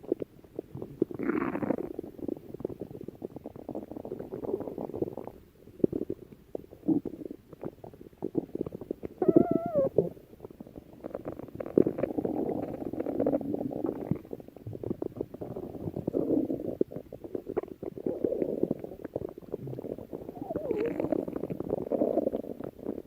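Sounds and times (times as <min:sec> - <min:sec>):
stomach growling: 0:00.0 - 0:23.0.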